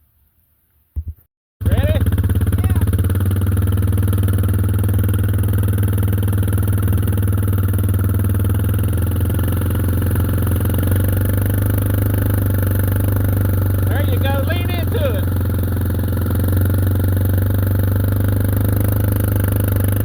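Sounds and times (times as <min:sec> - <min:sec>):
tractor engine running: 0:01.6 - 0:20.0.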